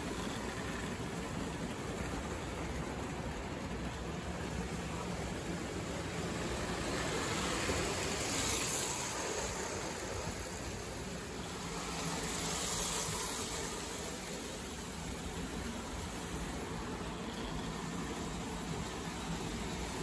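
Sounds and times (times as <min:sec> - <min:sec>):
model train rumbling on rails: 0:00.0 - 0:20.0.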